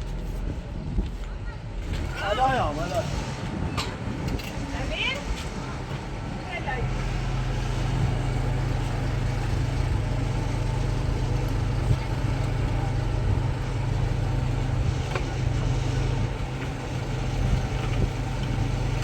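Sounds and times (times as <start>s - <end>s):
low mechanical hum: 3.1s - 19.0s.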